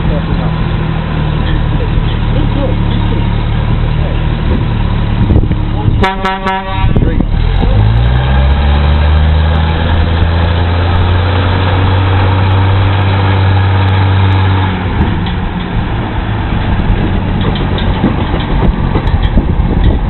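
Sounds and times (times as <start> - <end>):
uneven rumbling with knocks: 0.0 - 6.0, 7.0 - 20.0
vehicle engine humming: 0.0 - 20.0.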